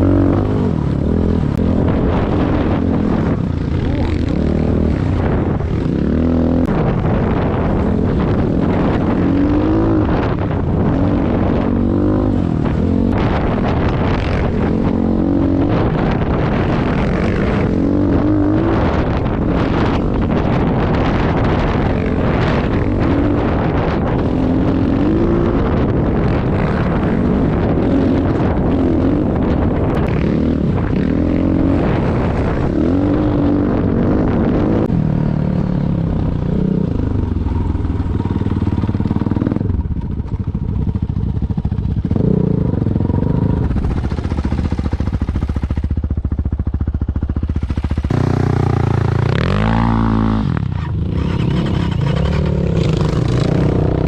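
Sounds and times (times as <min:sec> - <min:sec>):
dirt bike engine revving: 0:00.0 - 0:35.3, 0:41.6 - 0:54.0.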